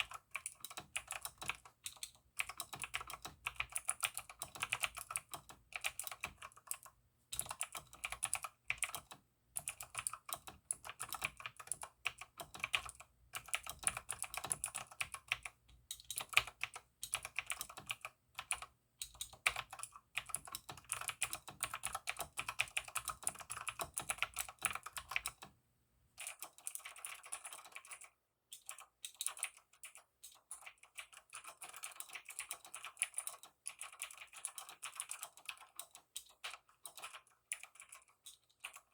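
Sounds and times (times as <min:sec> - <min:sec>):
typing on mechanical keyboard: 0:00.0 - 0:25.6, 0:26.2 - 0:38.9.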